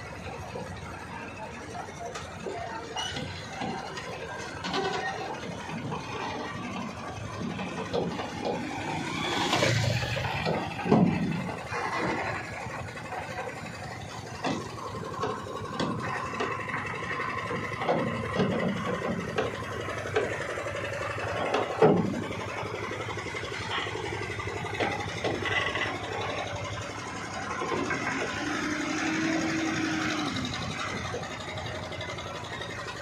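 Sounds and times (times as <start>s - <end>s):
heavy truck engine running: 0.0s - 33.0s
knocks and clunks: 0.4s - 33.0s.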